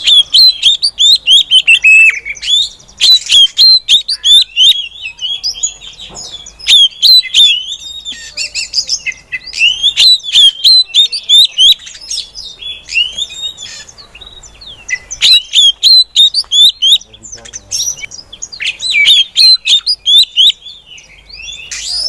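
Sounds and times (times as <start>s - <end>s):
bird chirping and whistling: 0.0s - 22.0s.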